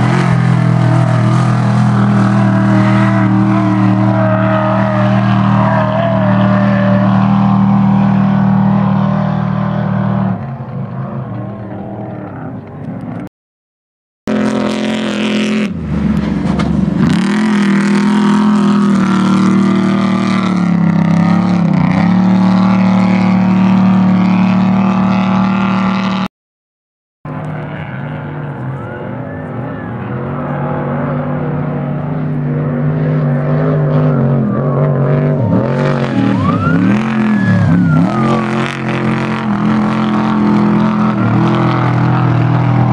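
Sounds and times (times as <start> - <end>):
race truck engines revving past: 0.0 - 13.3, 14.3 - 26.3, 27.3 - 42.9.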